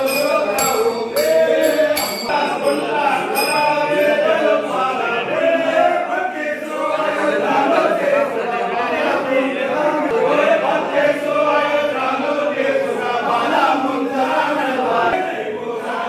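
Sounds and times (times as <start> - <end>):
men chanting together: 0.0 - 16.0.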